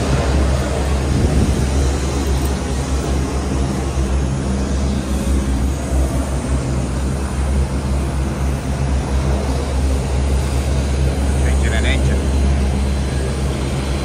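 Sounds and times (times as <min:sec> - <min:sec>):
aircraft and machinery rumbling: 0:00.0 - 0:14.0.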